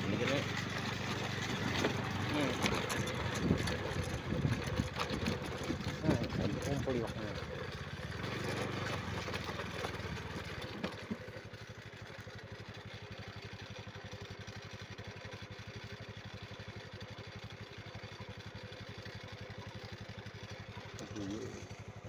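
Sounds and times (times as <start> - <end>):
small engine puttering: 0.0 - 22.0.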